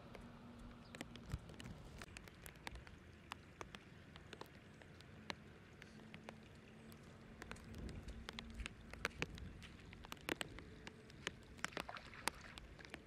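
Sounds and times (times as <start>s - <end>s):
light clicks and ticks: 0.0s - 13.0s.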